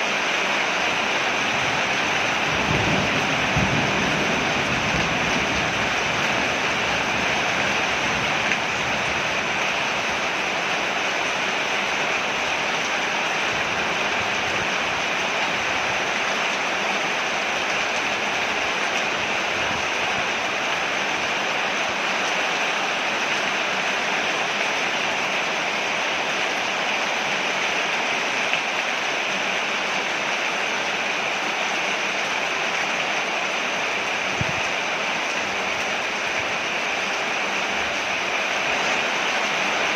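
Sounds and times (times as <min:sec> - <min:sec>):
heavy rain on porch: 0:00.0 - 0:39.9.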